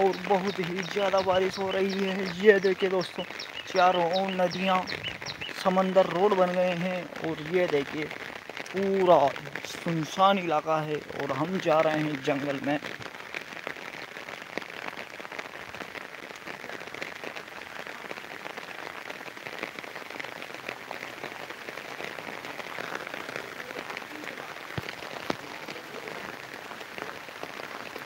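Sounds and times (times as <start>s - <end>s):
heavy rain on an umbrella: 0.0s - 28.0s.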